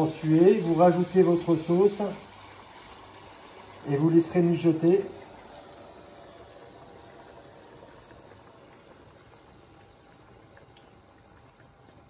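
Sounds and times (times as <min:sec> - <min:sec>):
sauce bubbling faintly: 0:00.0 - 0:12.0
sauce pouring into frying pan: 0:00.0 - 0:12.0.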